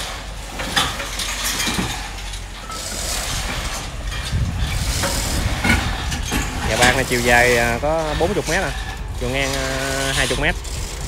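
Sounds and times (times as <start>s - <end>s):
wind buffeting microphone: 2.0s - 11.0s.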